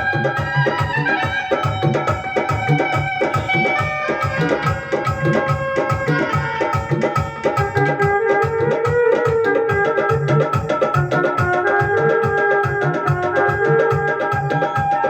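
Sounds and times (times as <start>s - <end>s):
held melody: 0.0s - 15.0s
steady drum beat: 0.0s - 15.0s.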